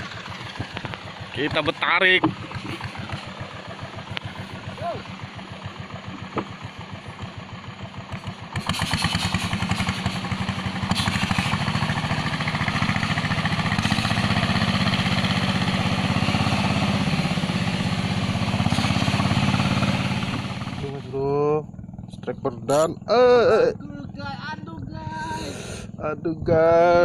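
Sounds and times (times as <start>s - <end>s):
boat engine pulsing: 0.0s - 27.0s.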